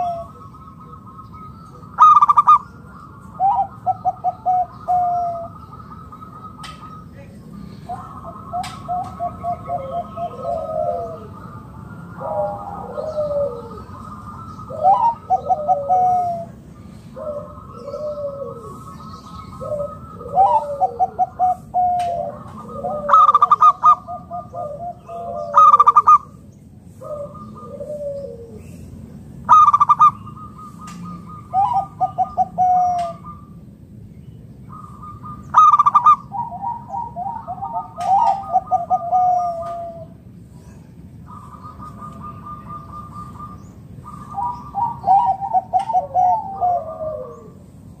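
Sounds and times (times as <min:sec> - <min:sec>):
doves cooing: 0:00.0 - 0:48.0.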